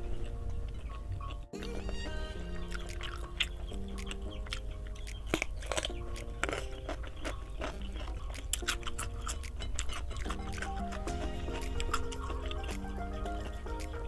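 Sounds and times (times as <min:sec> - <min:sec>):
person chewing with crunches: 0:00.0 - 0:14.0
soft background music: 0:00.0 - 0:14.0
mouth clicks: 0:00.3 - 0:14.0.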